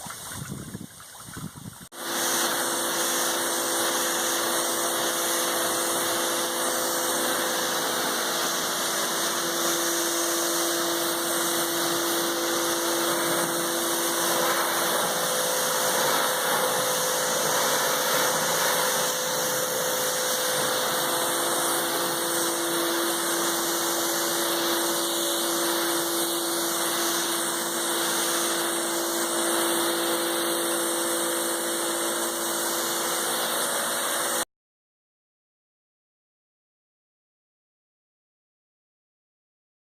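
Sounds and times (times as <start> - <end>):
pump motor whine: 0.0 - 34.4
pressure washer spraying water: 1.7 - 34.4.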